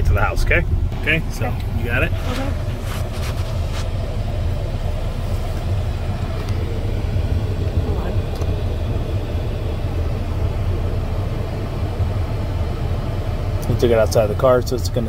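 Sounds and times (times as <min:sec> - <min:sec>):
car engine rumble from inside cabin: 0:00.0 - 0:15.0.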